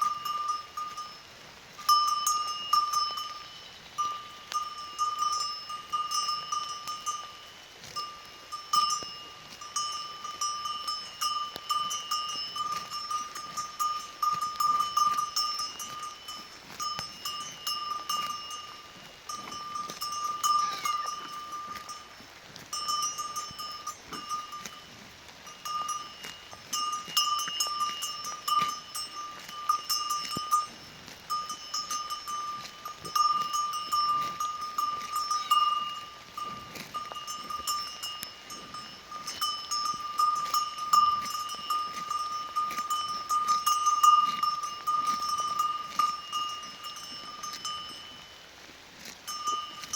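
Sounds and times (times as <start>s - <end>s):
cow bell clanking: 0.0s - 49.9s.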